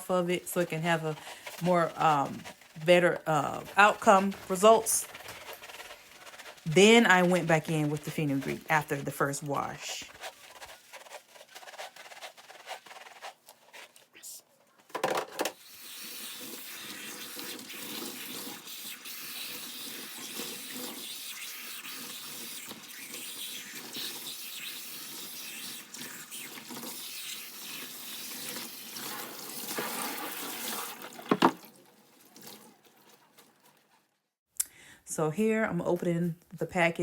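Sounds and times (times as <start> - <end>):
water running: 0.0 - 14.2, 15.6 - 34.0.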